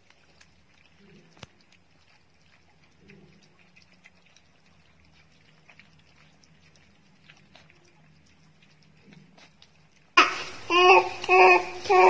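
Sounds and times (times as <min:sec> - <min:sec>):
puppies lapping and chewing: 0:00.0 - 0:12.0.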